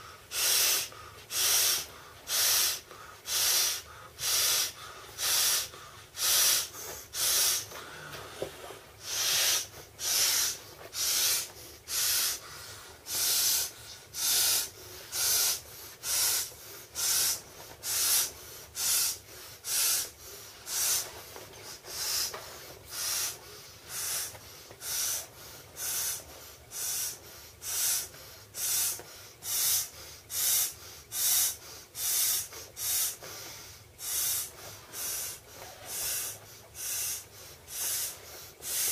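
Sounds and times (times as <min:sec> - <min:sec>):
person blowing hissing breaths: 0:00.0 - 0:38.9.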